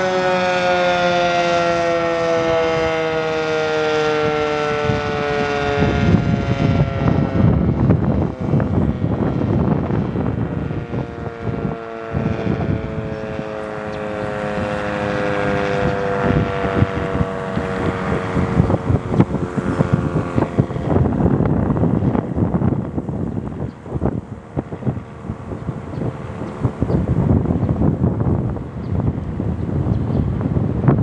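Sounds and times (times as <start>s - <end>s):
freeway traffic: 0.0s - 31.0s
warning siren chord: 0.0s - 31.0s
wind buffeting microphone: 0.0s - 31.0s.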